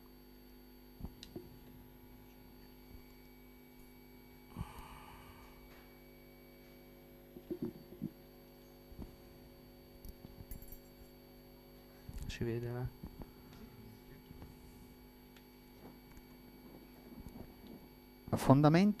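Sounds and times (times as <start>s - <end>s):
electrical equipment hum: 0.0s - 19.0s.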